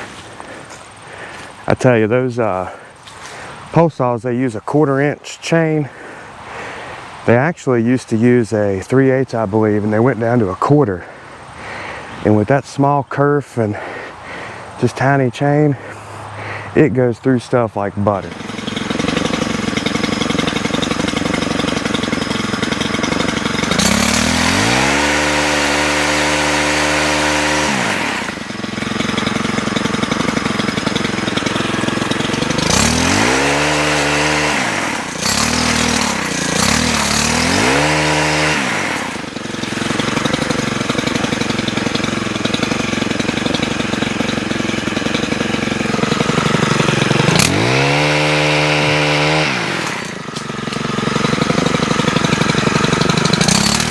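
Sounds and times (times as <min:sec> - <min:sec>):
pole saw engine idling and revving: 0:00.0 - 0:53.9.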